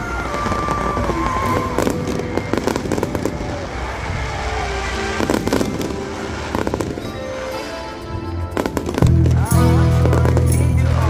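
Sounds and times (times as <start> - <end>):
fireworks bursting: 0.0 - 11.0
music: 0.0 - 11.0.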